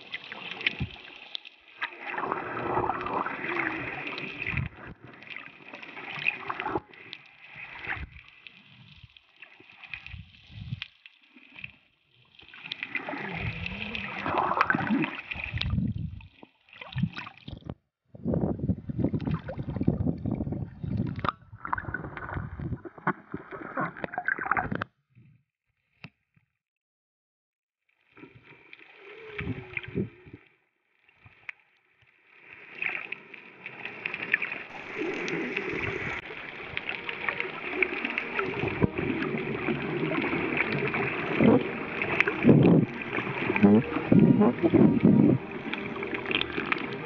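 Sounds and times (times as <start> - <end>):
underwater water sloshing: 0.0 - 17.7, 18.9 - 25.3, 32.3 - 47.0.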